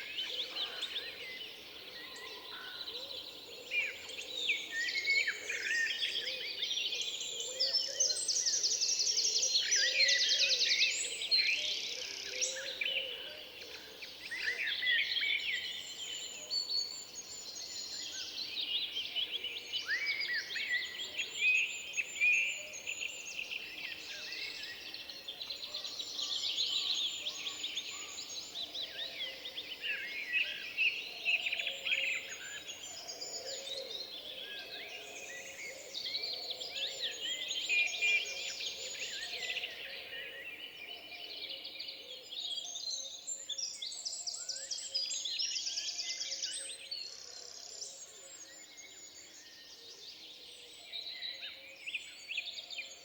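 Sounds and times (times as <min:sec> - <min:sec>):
faint low-pitched birdsong: 0:00.0 - 0:53.0
songbirds chirping and trilling: 0:00.0 - 0:53.0.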